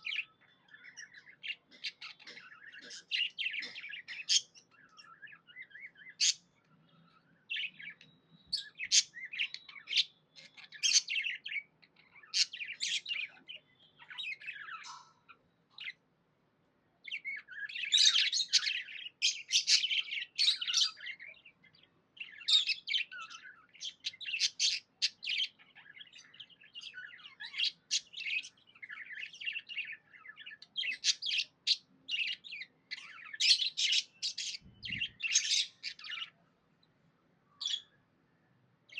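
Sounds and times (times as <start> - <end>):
budgerigars chirping: 0.0 - 6.4, 7.5 - 15.2, 17.1 - 21.4, 22.2 - 36.3.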